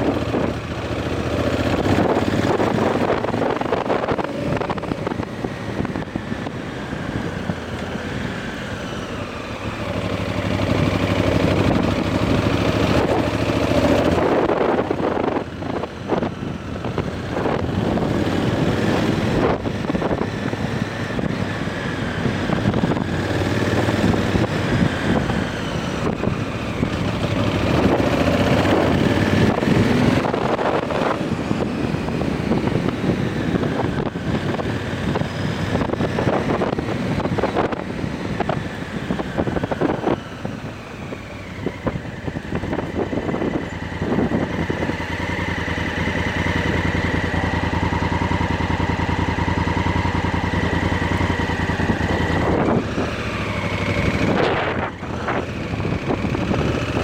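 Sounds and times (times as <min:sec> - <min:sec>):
motorcycle engine revving: 0:00.0 - 0:57.0
wind on microphone: 0:10.8 - 0:57.0.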